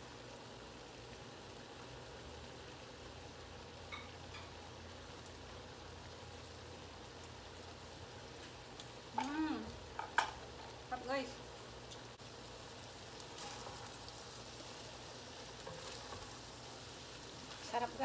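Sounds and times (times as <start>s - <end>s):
pan sizzling hiss: 0.0s - 18.0s.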